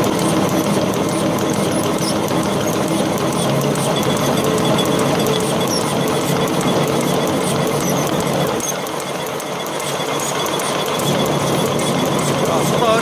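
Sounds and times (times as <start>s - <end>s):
machine low hum: 0.0s - 13.0s
napkin machine clattering: 0.0s - 13.0s.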